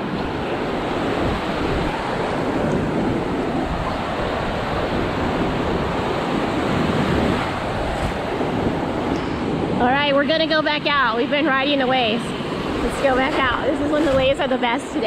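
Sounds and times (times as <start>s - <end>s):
heavy surf breaking on beach: 0.0s - 15.0s
wind buffeting microphone: 0.0s - 15.0s.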